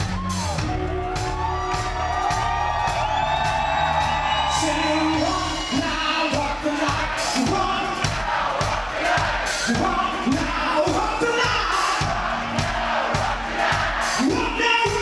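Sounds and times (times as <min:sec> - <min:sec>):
crowd voices: 0:00.0 - 0:15.0
drum beat: 0:00.0 - 0:15.0
hard rock band playing live: 0:00.0 - 0:15.0.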